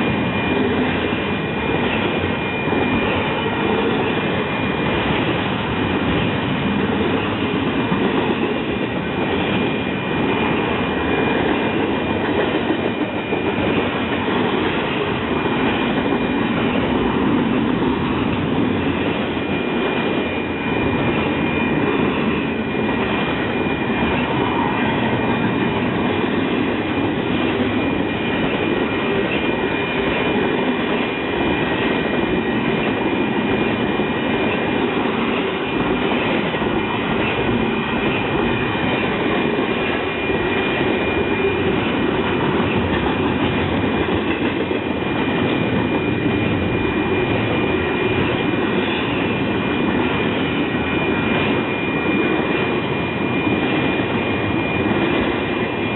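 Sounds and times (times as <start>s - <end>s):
train wheels clattering on rail: 0.0s - 55.9s.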